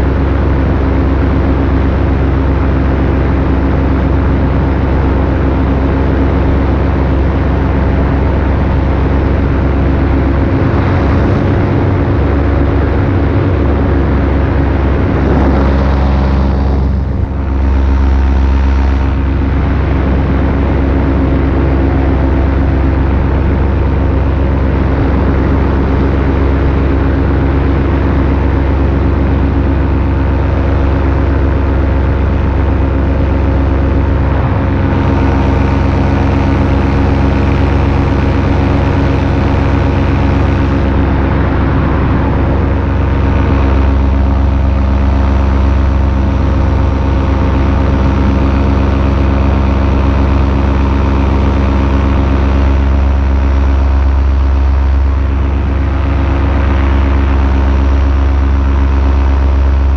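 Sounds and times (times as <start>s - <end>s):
paramotor engine and propeller drone: 0.0s - 59.9s.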